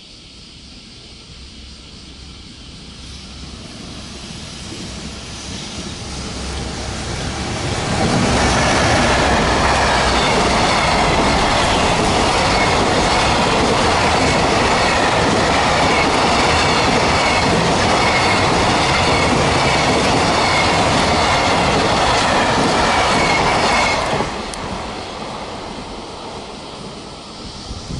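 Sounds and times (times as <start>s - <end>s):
freight train wheels on rails: 0.0s - 27.9s.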